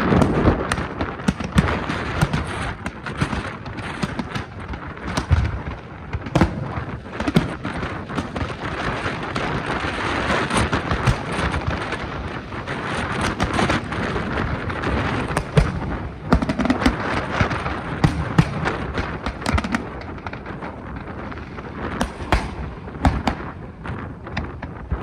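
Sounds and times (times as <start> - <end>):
fireworks bangs and crackling: 0.0 - 25.0
fireworks booms: 0.0 - 25.0.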